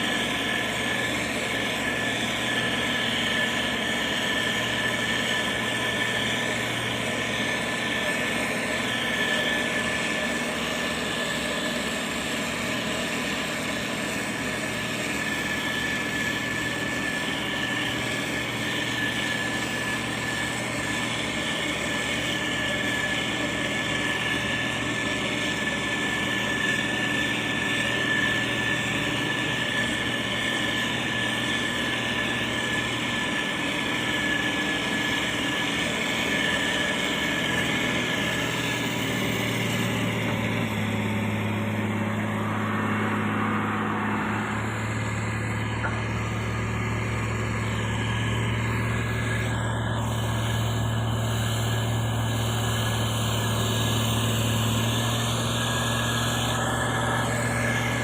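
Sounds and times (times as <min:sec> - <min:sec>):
heavy diesel engine running: 0:00.0 - 0:58.0
high whine: 0:00.0 - 0:58.0.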